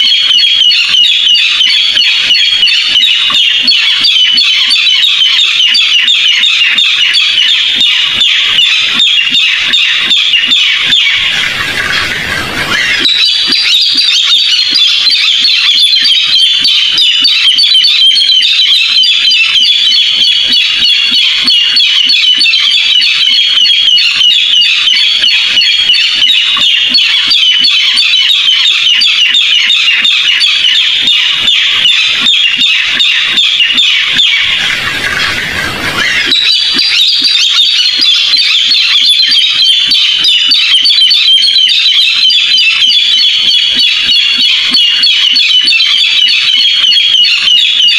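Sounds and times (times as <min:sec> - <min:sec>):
bird calling in rapid high notes: 0:00.0 - 0:47.9.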